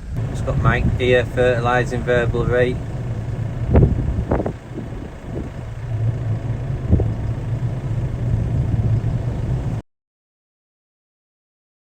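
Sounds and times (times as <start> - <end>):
farm vehicle engine running: 0.0 - 9.8.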